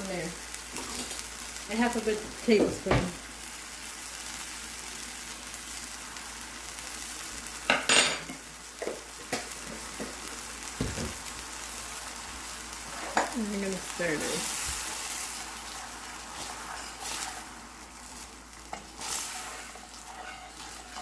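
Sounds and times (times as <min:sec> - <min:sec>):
sauce sizzling in a skillet: 0:00.0 - 0:21.0.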